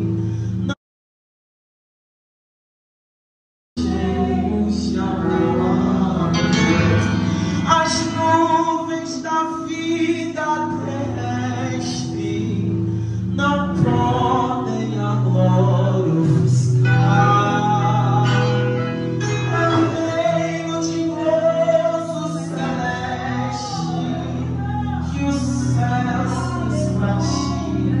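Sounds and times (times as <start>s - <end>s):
voices singing gospel song: 3.8s - 12.7s, 13.4s - 28.0s
electronic keyboard accompaniment: 3.8s - 28.0s.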